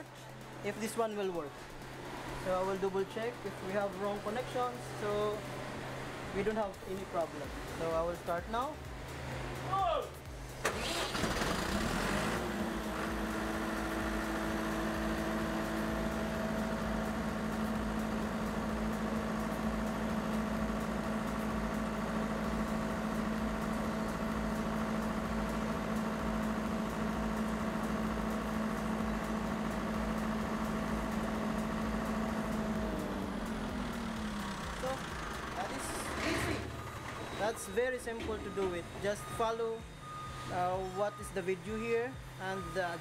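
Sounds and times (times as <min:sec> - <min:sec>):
diesel generator running: 0:00.0 - 0:43.0.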